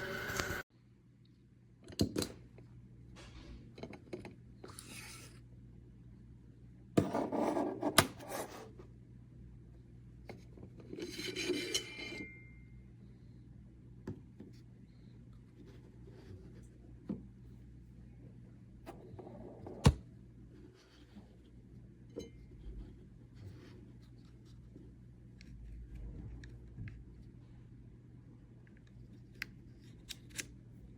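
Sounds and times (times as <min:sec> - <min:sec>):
faint low hum: 0:00.0 - 0:30.9.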